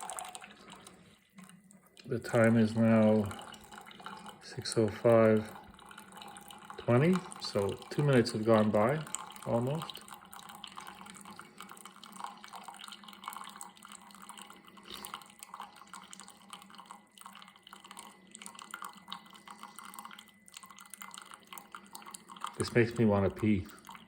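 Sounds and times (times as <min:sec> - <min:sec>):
coffee dripping into a cup: 0:00.0 - 0:24.0.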